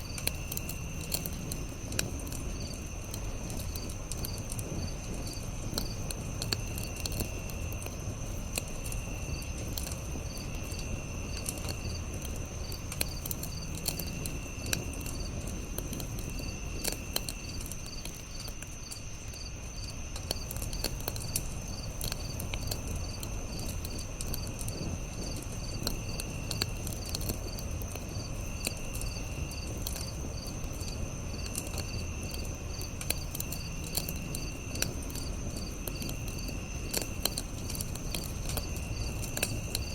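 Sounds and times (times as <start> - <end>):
campfire crackling: 0.0 - 39.9
crickets chirping: 0.0 - 39.9
high insect trill: 0.0 - 39.9
lower insect trill: 0.0 - 39.9.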